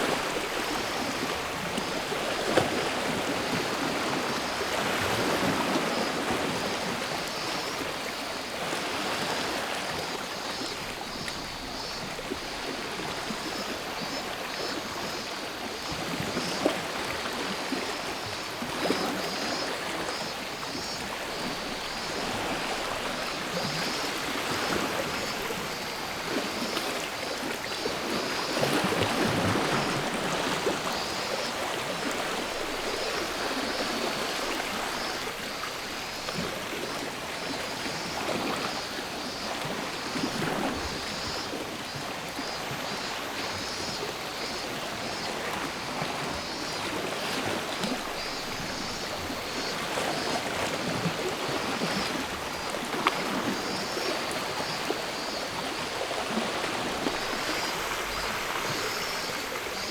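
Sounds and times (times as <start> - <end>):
cicadas chorus: 0.0 - 59.9
sea waves washing ashore: 0.0 - 59.9.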